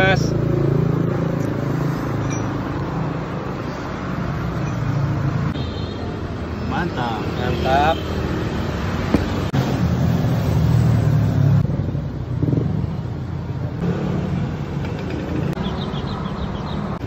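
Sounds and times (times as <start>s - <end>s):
low traffic rumble: 0.0s - 17.0s
vehicles passing: 0.0s - 17.0s.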